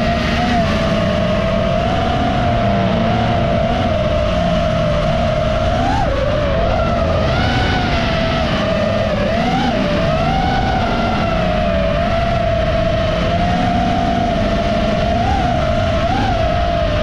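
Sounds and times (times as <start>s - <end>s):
quadcopter motors whining: 0.0s - 17.0s
wind rumble: 0.0s - 17.0s.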